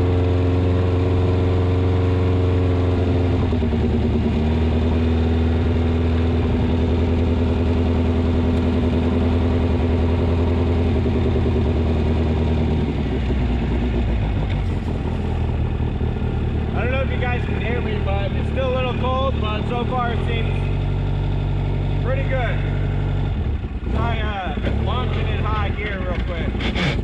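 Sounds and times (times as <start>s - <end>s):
buggy engine running: 0.0s - 27.0s.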